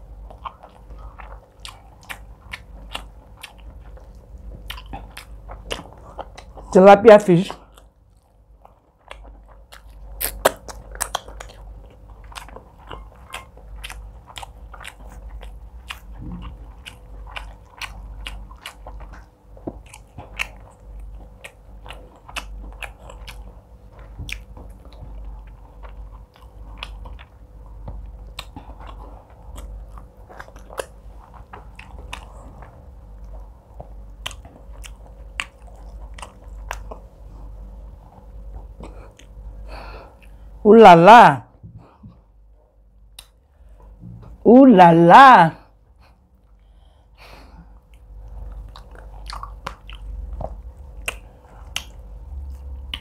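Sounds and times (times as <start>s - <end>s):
wet chewing and mouth clicks: 0.0s - 6.7s, 7.5s - 40.5s, 42.9s - 44.4s, 46.0s - 53.0s.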